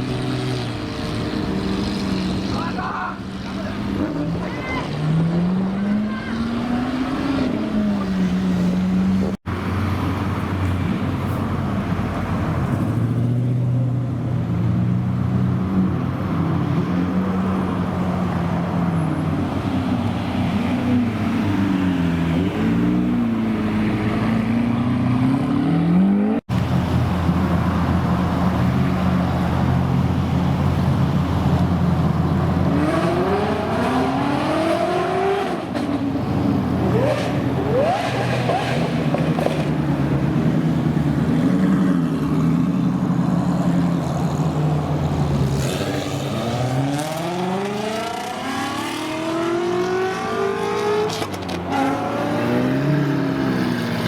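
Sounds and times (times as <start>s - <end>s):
car engines idling and revving: 0.0s - 54.0s.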